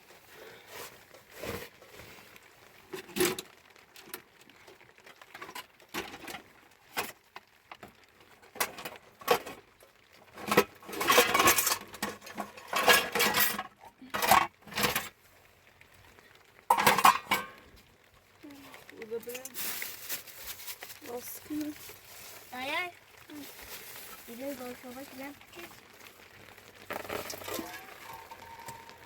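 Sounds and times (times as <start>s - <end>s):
hard objects clinking and rattling: 2.4s - 15.2s, 16.4s - 17.8s, 18.5s - 29.0s.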